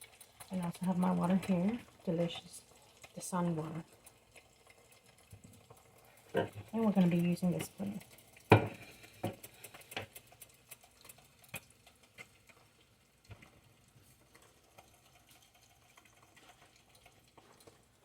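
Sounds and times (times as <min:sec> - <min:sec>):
oil crackling in a frying pan: 0:00.0 - 0:18.0.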